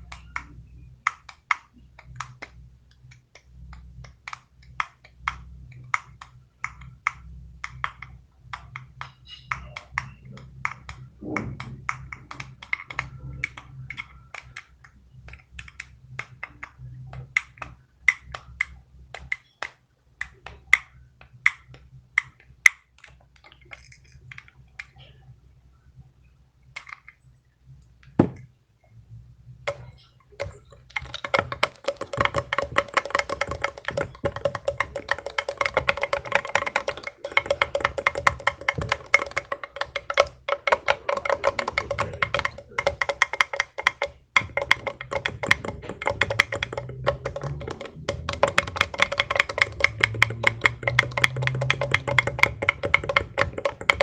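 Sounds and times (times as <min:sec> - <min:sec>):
fidget toy clicking: 0:00.0 - 0:25.2, 0:29.6 - 0:54.0.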